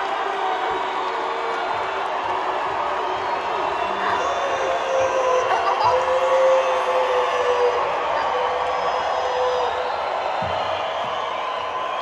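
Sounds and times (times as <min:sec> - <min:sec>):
crowd cheering and whooping: 0:00.0 - 0:12.0.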